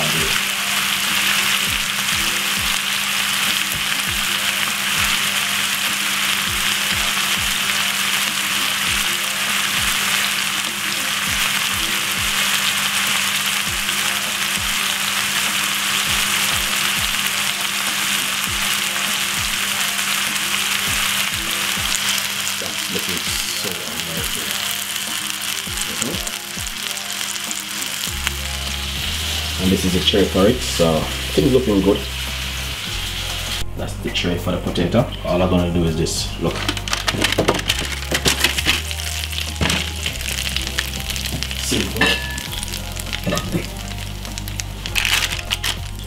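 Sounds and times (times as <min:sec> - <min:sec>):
meat sizzling in a frying pan: 0:00.0 - 0:33.7, 0:36.4 - 0:46.0.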